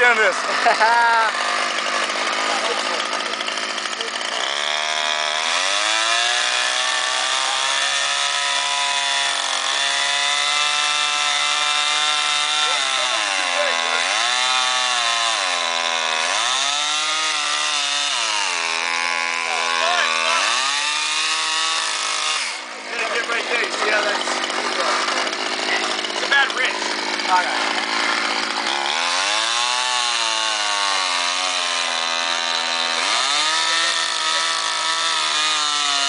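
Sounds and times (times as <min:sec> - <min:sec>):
chainsaw cutting ice: 0:00.0 - 0:36.0.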